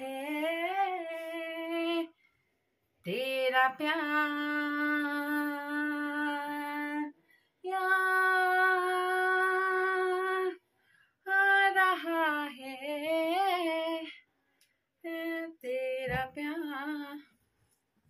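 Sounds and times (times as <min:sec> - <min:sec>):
woman singing unaccompanied: 0:00.0 - 0:02.2, 0:03.0 - 0:10.6, 0:11.2 - 0:14.2, 0:15.0 - 0:17.3.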